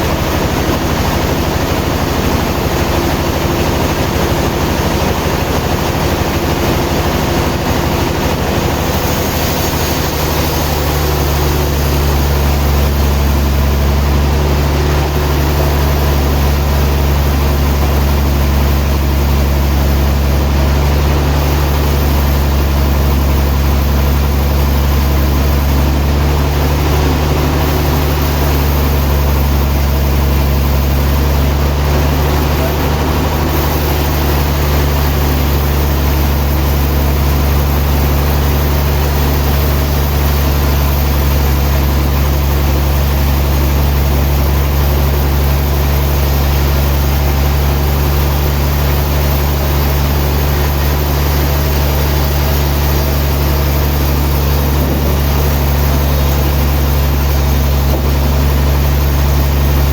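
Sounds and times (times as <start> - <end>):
sawmill machinery engine hum: 0.0 - 59.9.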